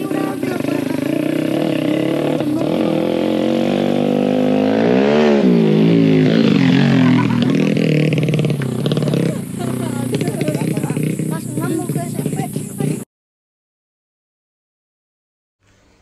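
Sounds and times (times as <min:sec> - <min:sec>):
motorcycle engine revving past: 0:00.0 - 0:13.1.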